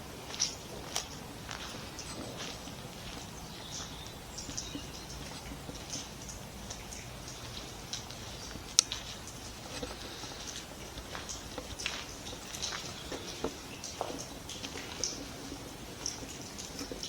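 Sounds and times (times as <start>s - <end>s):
footsteps in a tunnel: 0.0s - 17.0s.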